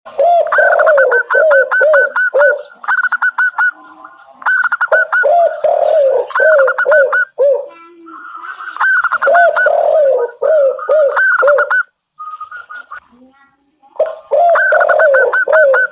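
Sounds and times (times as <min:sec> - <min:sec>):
doves cooing: 0:00.1 - 0:13.0, 0:14.0 - 0:15.9.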